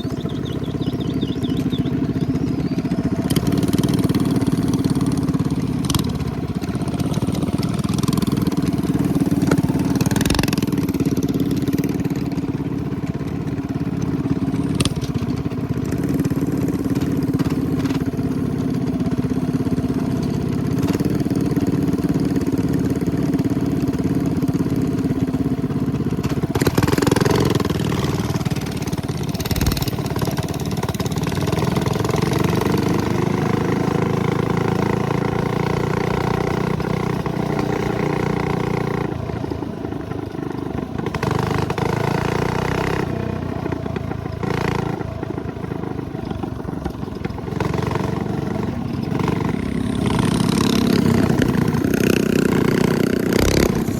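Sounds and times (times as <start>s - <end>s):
minibike engine running: 0.0s - 53.9s.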